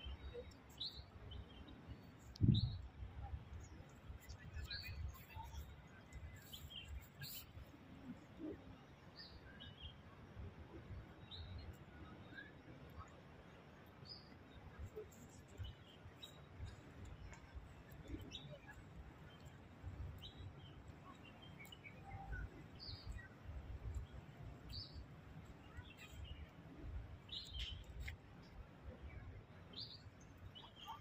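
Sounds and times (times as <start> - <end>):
small birds chirping: 0.0 - 8.6, 14.0 - 31.0.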